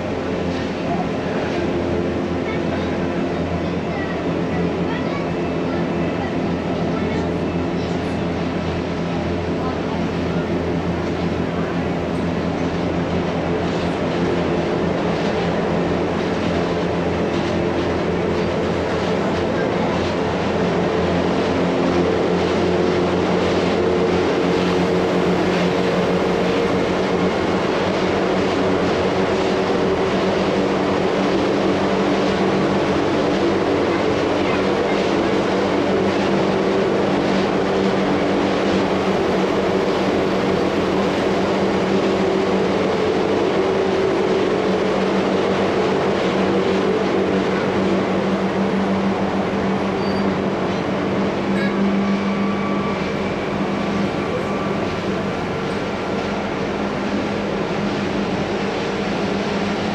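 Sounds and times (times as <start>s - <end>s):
electric train running: 0.0s - 59.9s
steady humming tones: 0.0s - 59.9s.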